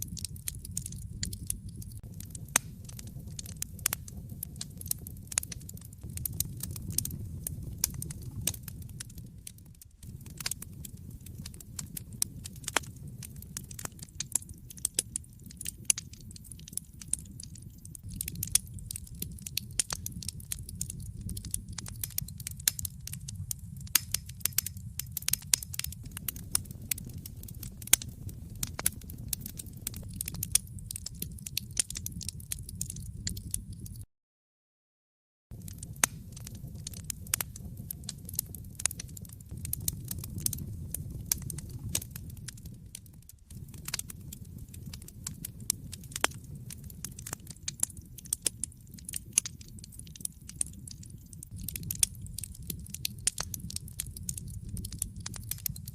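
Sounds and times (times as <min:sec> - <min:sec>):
wood fire crackling: 0:00.0 - 0:34.1, 0:35.5 - 0:55.9.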